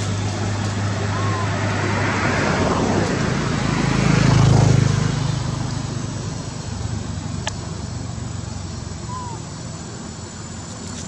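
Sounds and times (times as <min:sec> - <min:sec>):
vehicle engine passing by: 0:00.0 - 0:10.2.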